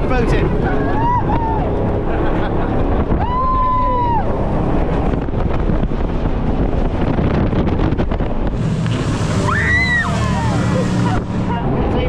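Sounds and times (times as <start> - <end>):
jet boat engine and water rush: 0.0 - 12.0
wind buffeting microphone: 0.0 - 12.0.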